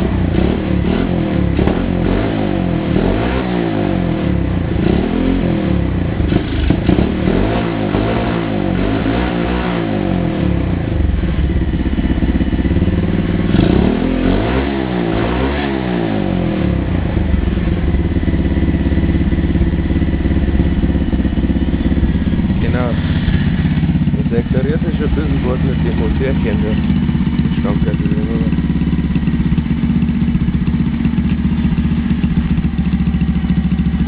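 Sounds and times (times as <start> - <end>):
motorcycle engine revving and idling: 0.0 - 34.0.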